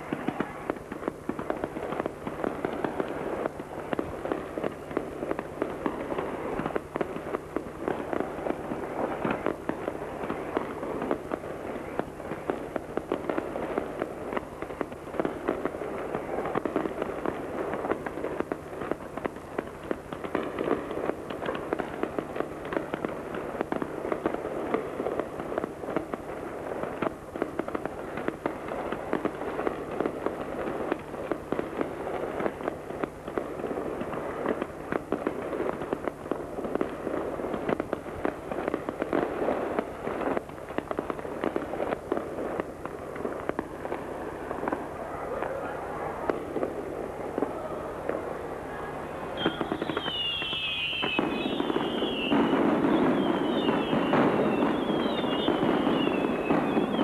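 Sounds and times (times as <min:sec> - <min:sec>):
fireworks fountain crackling: 0:00.0 - 0:57.0.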